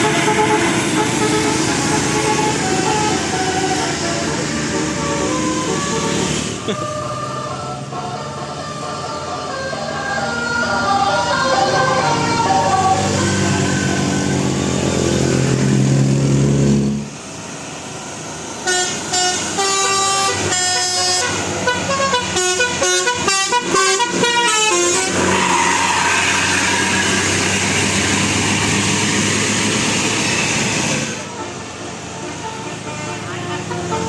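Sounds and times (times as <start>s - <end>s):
musical bus horn tune: 0.0s - 17.2s, 18.6s - 28.1s, 29.5s - 34.0s.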